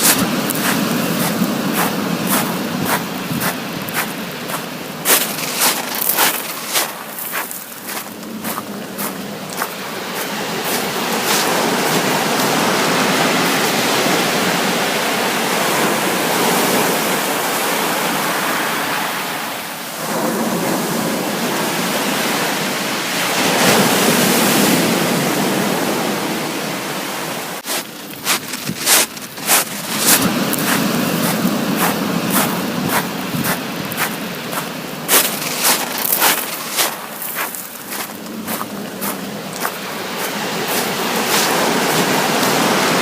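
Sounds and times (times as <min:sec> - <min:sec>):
sea waves breaking: 0:00.0 - 0:43.0.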